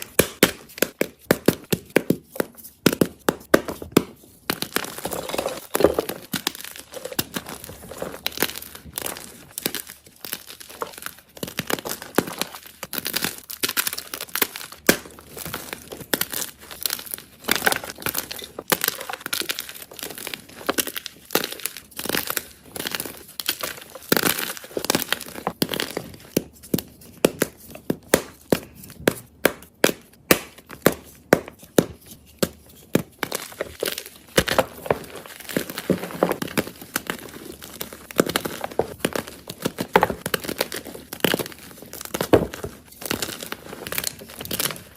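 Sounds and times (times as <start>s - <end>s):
chalk block crunching: 3.6s - 27.8s, 30.4s - 44.9s.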